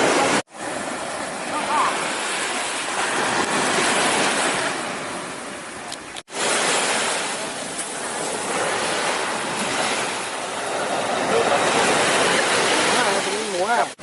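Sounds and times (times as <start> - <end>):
sea waves washing onto beach: 0.0 - 14.0.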